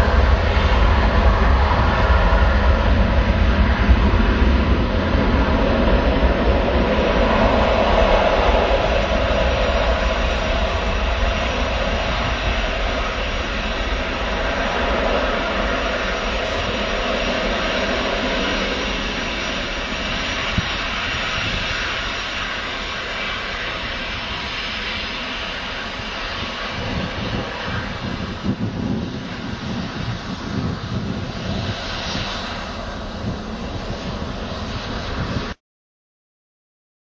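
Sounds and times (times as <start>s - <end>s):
jet engines roaring at takeoff: 0.0s - 35.6s.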